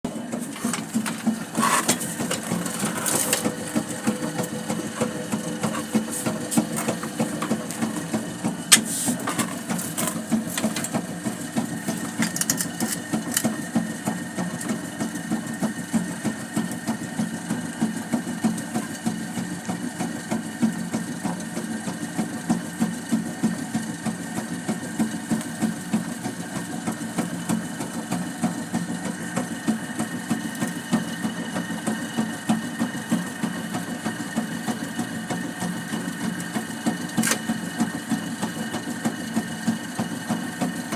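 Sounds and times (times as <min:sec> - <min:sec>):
water pump running: 0:00.0 - 0:40.9.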